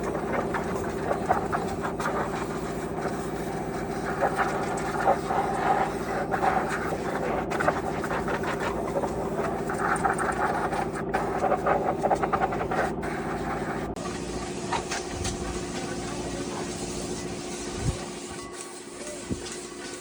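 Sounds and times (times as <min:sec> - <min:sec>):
motor running: 0:00.0 - 0:20.0.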